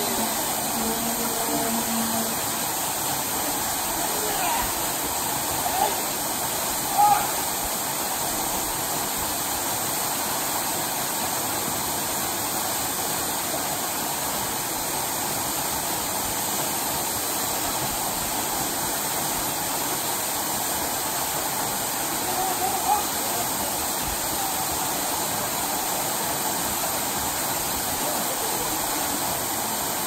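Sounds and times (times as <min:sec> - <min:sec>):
waterfall rushing onto rocks: 0:00.0 - 0:30.0.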